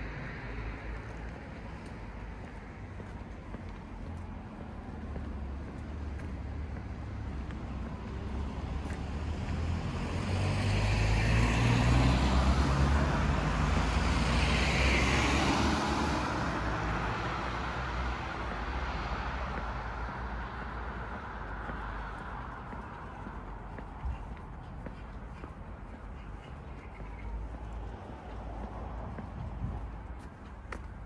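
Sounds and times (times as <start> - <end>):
car passing: 0.0 - 31.0.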